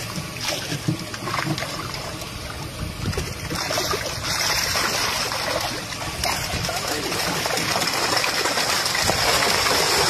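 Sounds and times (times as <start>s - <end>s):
river water trickling and splashing: 0.0s - 10.0s.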